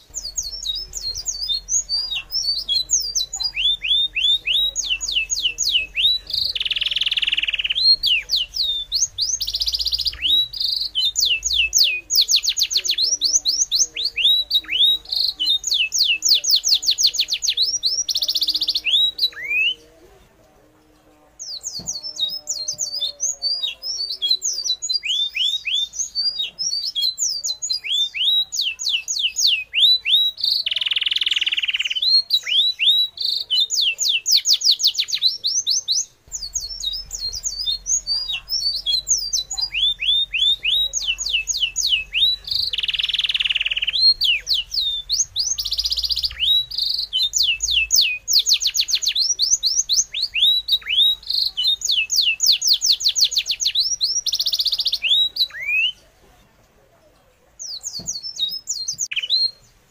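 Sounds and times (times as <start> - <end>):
birds chirping and trilling: 0.0 - 20.0, 20.8 - 56.1, 57.6 - 59.9.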